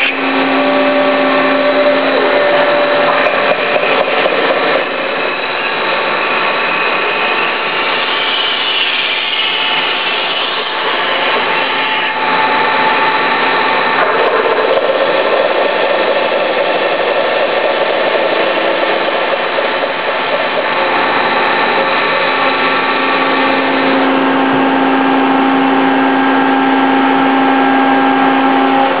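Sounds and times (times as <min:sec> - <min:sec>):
machine tool whining: 0:00.0 - 0:29.0.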